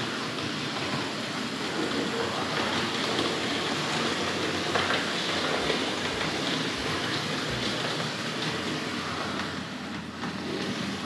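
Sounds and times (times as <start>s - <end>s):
model train whirring rattle: 0.0s - 11.0s.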